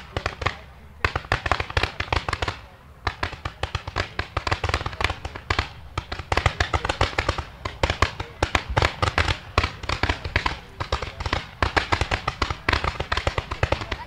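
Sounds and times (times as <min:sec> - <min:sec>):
fireworks launch reports: 0:00.0 - 0:14.0.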